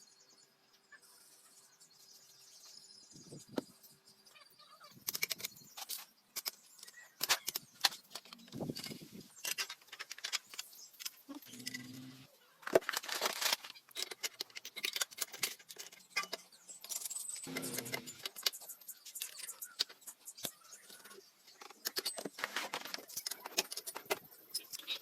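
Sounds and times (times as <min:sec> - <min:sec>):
metal parts and tools clinking: 0:04.9 - 0:25.0.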